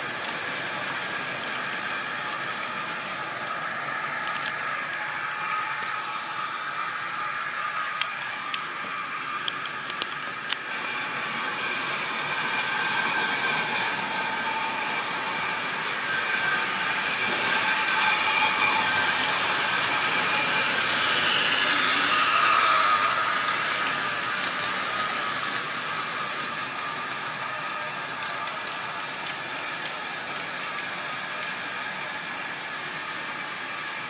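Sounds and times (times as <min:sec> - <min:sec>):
model train motor and wheels whir: 0:00.0 - 0:34.0.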